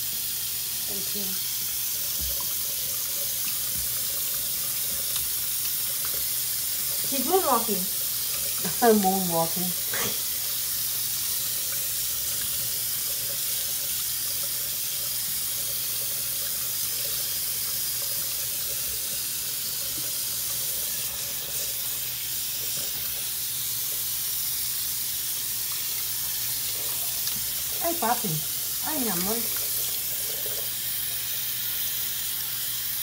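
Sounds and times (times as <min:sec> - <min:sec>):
faucet running into sink: 0:00.0 - 0:33.0.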